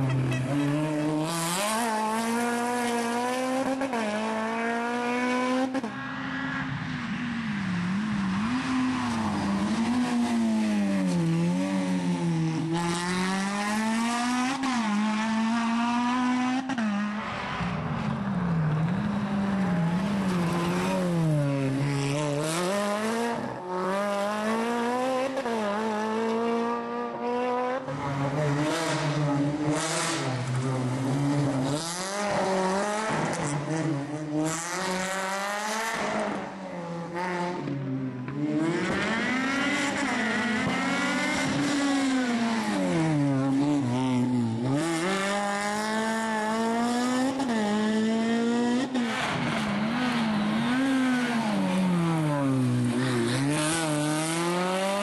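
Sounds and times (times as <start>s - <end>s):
rally car engine revving: 0.0s - 6.4s, 7.7s - 55.0s.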